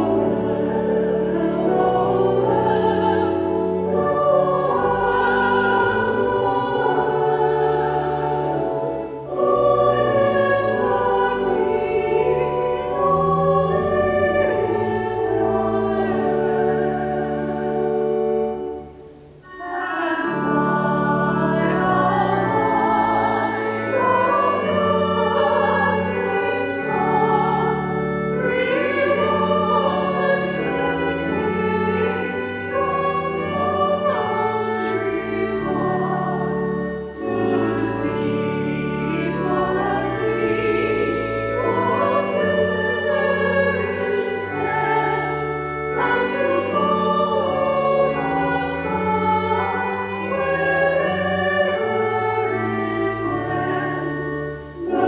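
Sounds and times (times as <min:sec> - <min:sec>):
choir singing a hymn: 0:00.0 - 0:55.0
organ accompaniment: 0:00.0 - 0:55.0.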